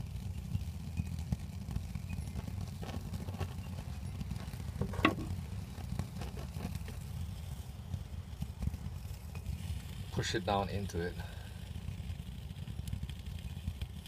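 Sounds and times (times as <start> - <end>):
alcohol stove burning rumble: 0.0 - 14.0.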